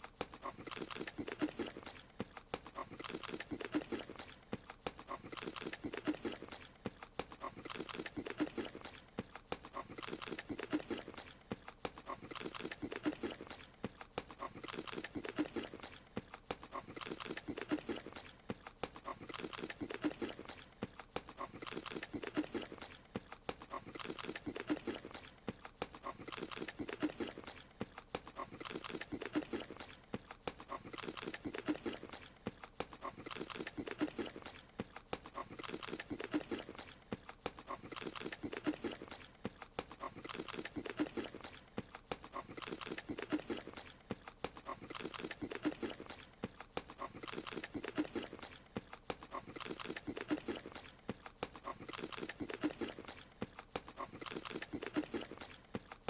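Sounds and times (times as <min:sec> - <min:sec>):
cartoon chewing and munching: 0:00.0 - 0:56.0.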